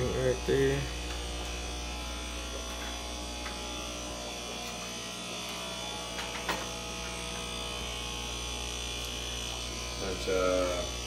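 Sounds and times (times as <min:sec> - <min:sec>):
aquarium air pumps humming: 0:00.0 - 0:11.0.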